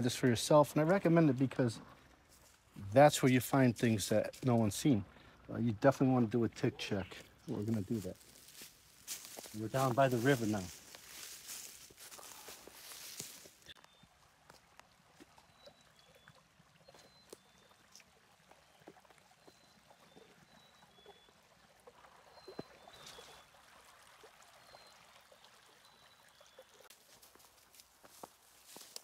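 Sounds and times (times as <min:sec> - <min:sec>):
faint stream trickling: 0:00.0 - 0:29.0.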